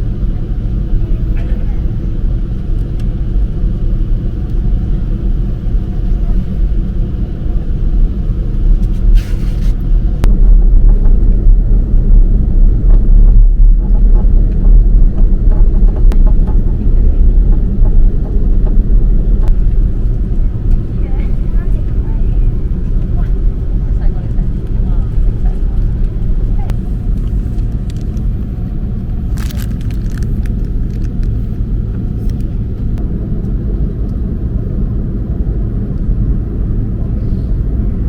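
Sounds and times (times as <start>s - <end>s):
airliner cabin engine rumble: 0.0s - 38.0s.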